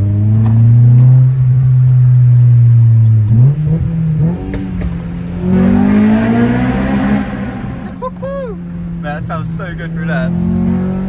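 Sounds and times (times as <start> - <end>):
car engine revving high: 0.0 - 11.0.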